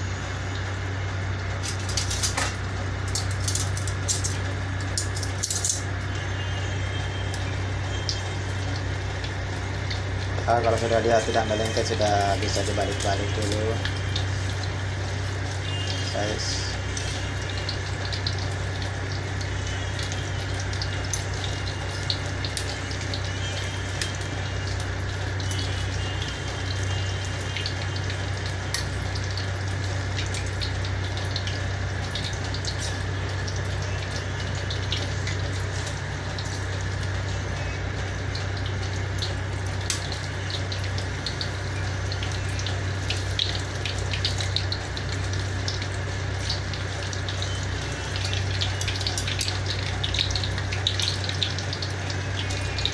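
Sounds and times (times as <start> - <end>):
constant low hum: 0.0 - 52.9
fritters deep-frying in oil: 0.0 - 52.9.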